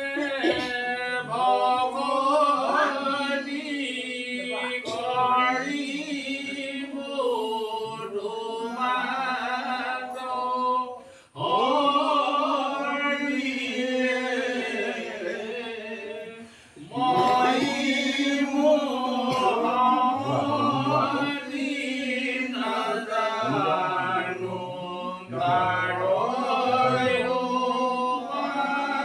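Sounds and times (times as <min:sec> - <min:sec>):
men chanting together: 0:00.0 - 0:29.0.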